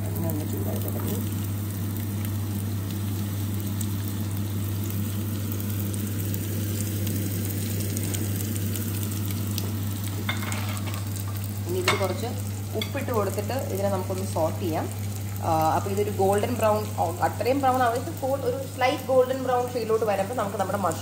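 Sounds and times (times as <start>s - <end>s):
onions sizzling in oil: 0.0s - 21.0s
steady low hum: 0.0s - 21.0s.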